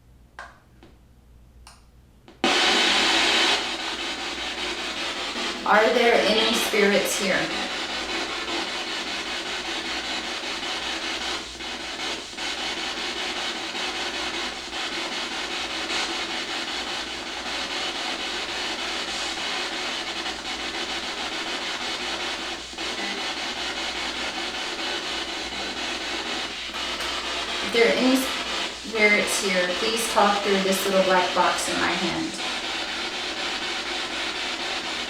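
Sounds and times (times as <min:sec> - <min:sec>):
spirit box static: 0:02.4 - 0:35.0.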